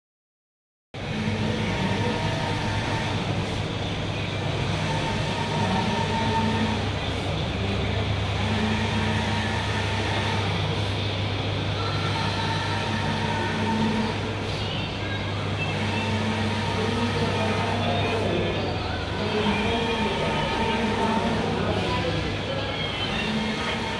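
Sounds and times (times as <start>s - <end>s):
printer running with whirring whine: 1.0s - 23.9s.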